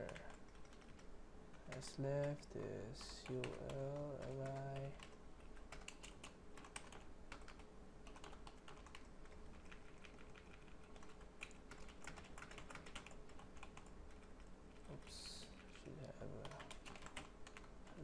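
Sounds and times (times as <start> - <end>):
keyboard typing: 0.0 - 18.0
low steady hum: 0.0 - 18.0.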